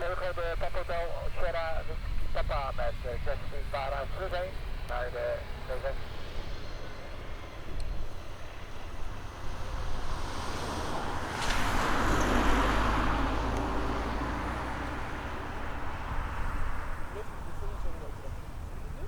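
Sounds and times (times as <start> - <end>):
light aircraft engine drone: 0.0 - 19.0.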